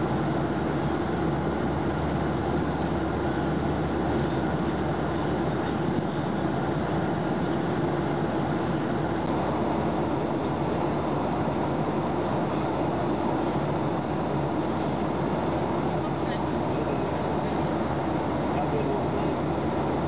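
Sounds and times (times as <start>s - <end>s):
jet engines and rushing air: 0.0s - 20.0s.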